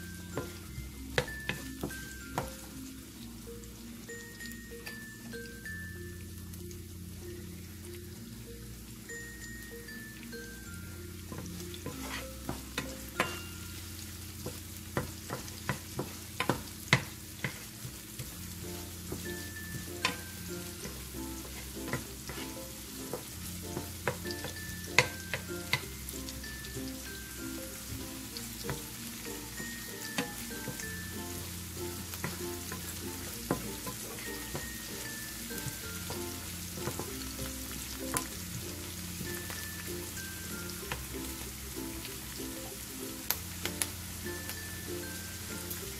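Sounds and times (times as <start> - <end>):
food sizzling in hot oil: 0.0 - 45.9
light background music: 0.0 - 45.9.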